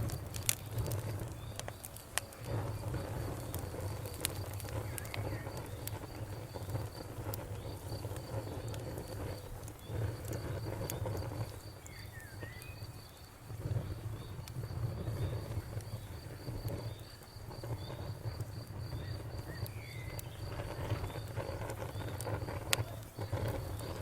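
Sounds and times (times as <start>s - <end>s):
cricket chirping: 0.0s - 24.0s
fire crackling and popping: 0.0s - 24.0s
wood fire rumbling: 0.0s - 24.0s.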